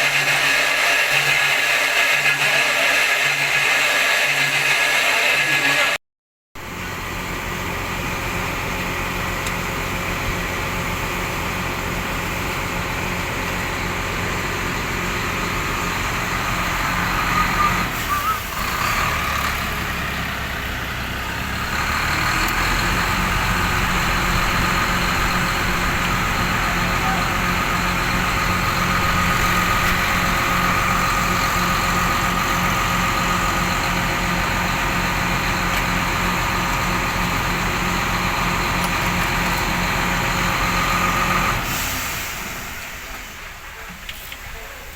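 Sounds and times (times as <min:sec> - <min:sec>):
truck diesel engine droning: 0:00.0 - 0:06.0, 0:06.6 - 0:44.9.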